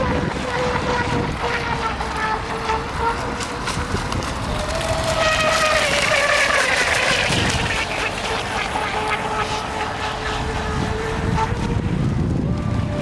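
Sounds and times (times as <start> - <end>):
model speedboat motor droning: 0.0 - 13.0.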